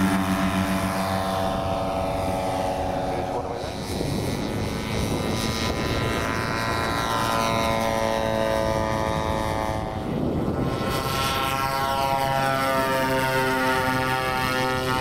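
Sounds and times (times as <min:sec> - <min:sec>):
model plane engine flying past: 0:00.0 - 0:15.0
twin model plane engines running: 0:00.0 - 0:15.0.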